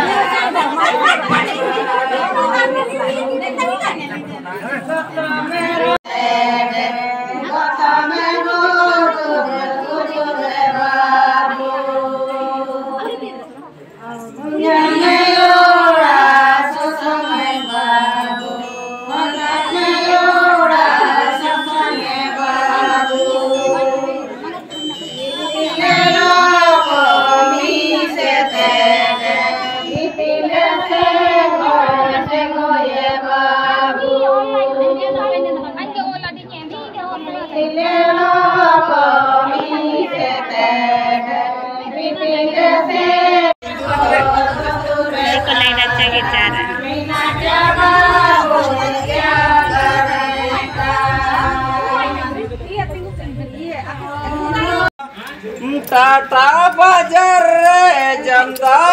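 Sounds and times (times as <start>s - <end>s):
women singing unaccompanied: 0.0s - 3.9s, 5.3s - 55.0s, 55.8s - 58.9s.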